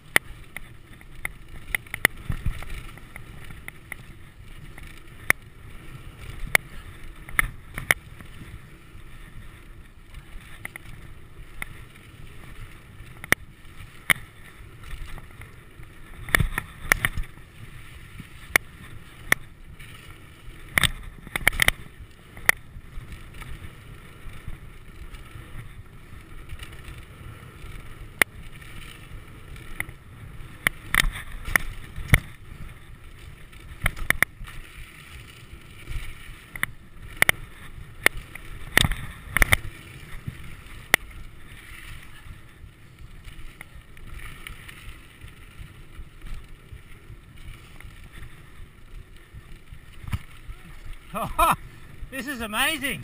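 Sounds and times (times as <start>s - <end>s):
bike rattling over bumps: 0.0s - 52.1s.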